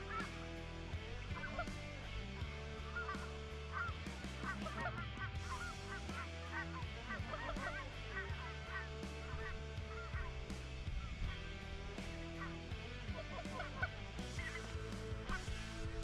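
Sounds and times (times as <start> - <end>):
background music: 0.0 - 16.0
geese honking: 1.3 - 1.8, 2.8 - 16.0.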